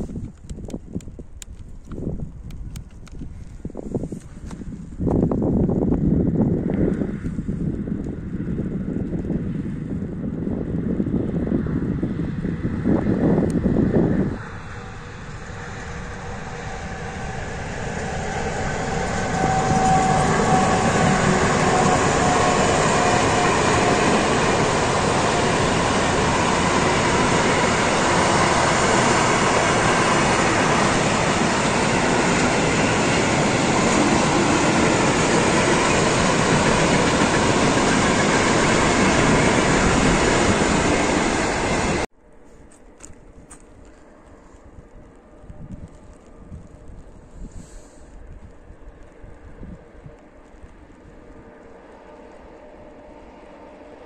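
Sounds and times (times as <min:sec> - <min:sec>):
wind on microphone: 0:00.0 - 0:54.0
freight train rolling past: 0:01.5 - 0:42.1, 0:45.2 - 0:54.0.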